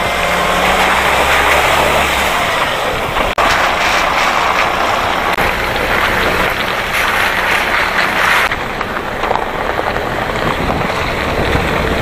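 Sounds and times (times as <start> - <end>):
truck engine running: 0.0 - 12.0
tyres rolling over wet gravel: 0.0 - 12.0.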